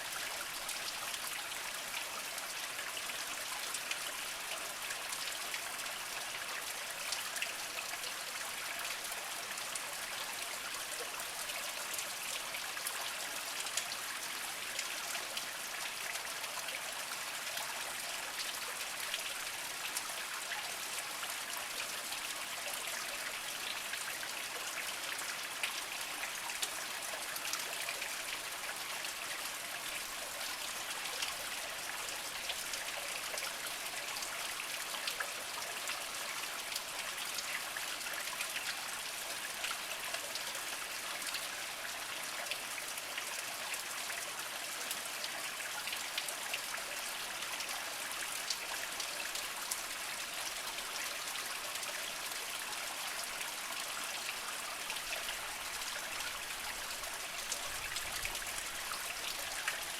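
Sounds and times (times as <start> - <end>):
water drips and splashes: 0.0 - 59.9.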